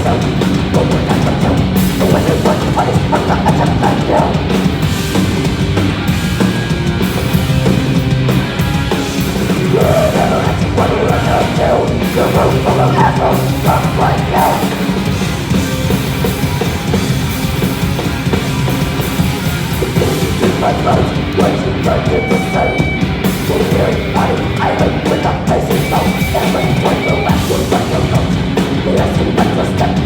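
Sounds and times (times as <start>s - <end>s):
distorted guitars: 0.0s - 30.0s
pounding drum kit: 0.0s - 30.0s.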